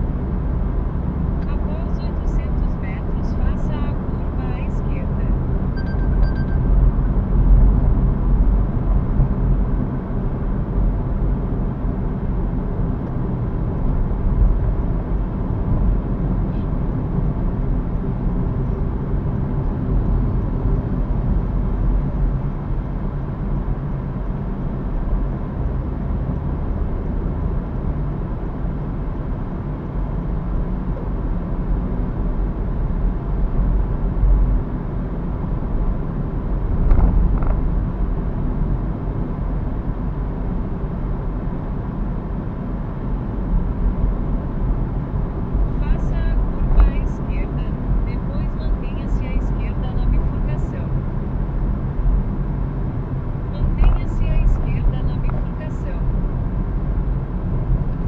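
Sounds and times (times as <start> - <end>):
engine and road noise rumble: 0.0 - 58.0.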